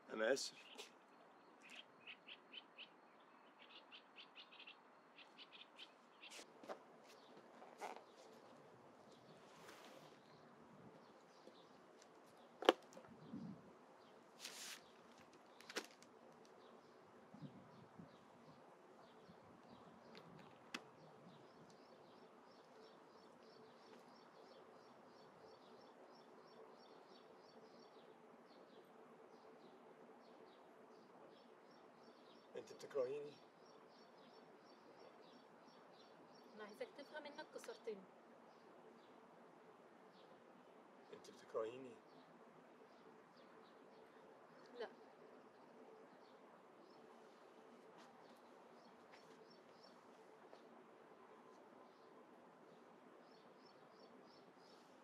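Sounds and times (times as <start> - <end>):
faint birds chirping: 0.0 - 55.0.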